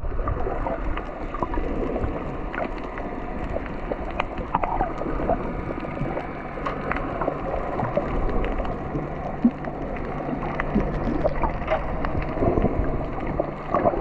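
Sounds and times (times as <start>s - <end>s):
small underwater clicks and crackles: 0.0s - 14.0s
underwater water rush: 0.0s - 14.0s.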